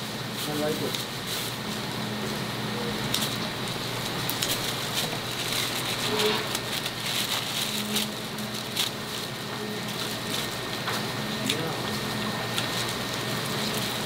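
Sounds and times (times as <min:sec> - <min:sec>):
plastic bags crinkling: 0:00.4 - 0:14.0.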